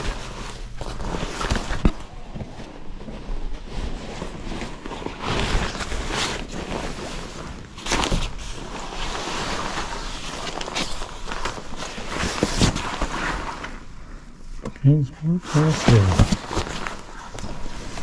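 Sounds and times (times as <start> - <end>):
jackets rustling on hangers: 0.0 - 13.7, 15.5 - 18.0.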